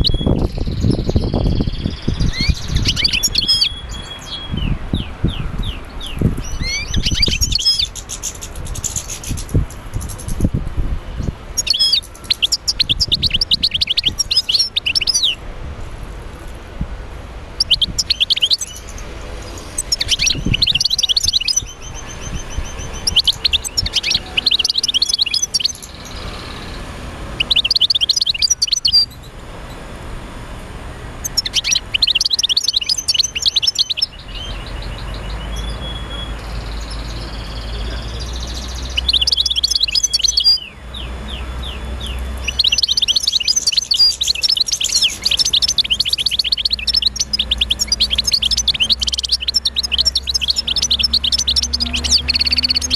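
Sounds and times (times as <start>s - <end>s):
birds chirping: 0.0s - 15.5s, 16.1s - 52.9s.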